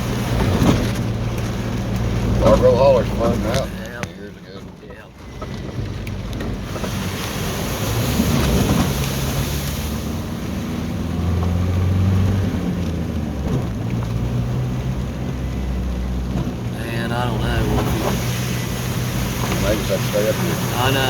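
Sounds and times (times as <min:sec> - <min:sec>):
tyres hissing on wet road: 0:00.0 - 0:04.0, 0:06.6 - 0:12.9, 0:14.5 - 0:21.0
car engine hum: 0:00.0 - 0:21.0.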